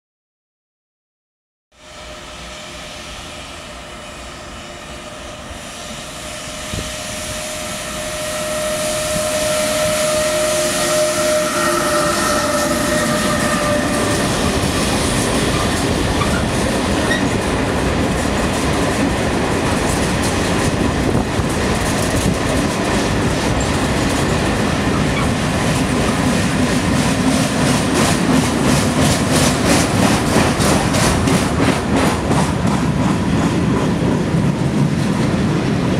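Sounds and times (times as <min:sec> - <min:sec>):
electric locomotive tones: 0:01.8 - 0:31.6
train rumbling past: 0:01.8 - 0:35.9.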